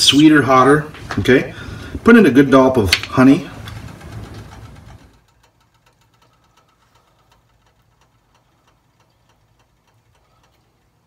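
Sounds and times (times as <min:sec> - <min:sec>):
light irregular ticking: 0:01.2 - 0:11.0.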